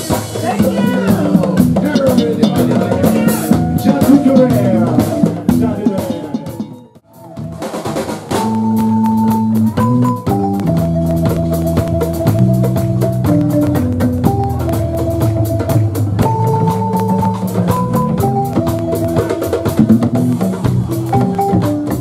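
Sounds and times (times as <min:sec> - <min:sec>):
balafon rolled notes: 0:00.0 - 0:22.0
live band with drum kit: 0:00.0 - 0:22.0.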